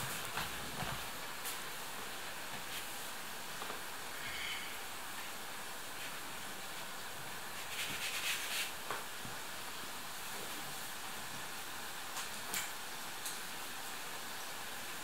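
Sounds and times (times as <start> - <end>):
dough frying in hot oil: 0.0 - 15.0.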